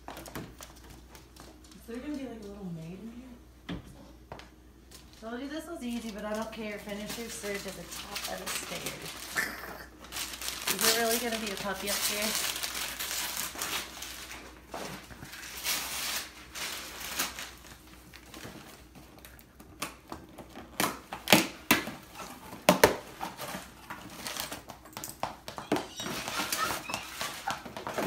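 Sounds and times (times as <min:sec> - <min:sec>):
wrapping paper rustling: 0:04.9 - 0:25.0, 0:25.6 - 0:28.0.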